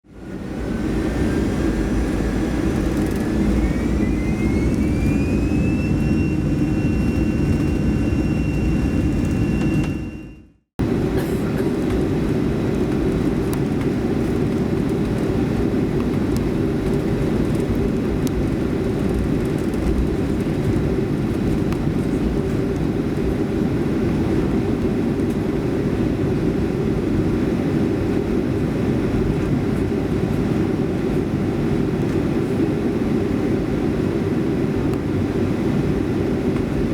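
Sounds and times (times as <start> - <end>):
engine cabin roar: 0.1 - 36.9
jet engines spooling up: 0.1 - 36.9.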